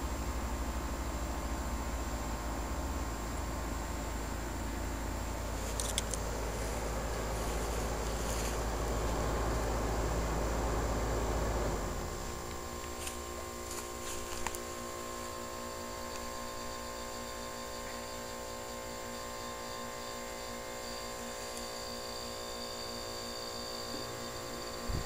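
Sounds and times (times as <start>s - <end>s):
air conditioner electrical hum: 0.0s - 25.0s
condenser fan cycling: 0.0s - 25.0s.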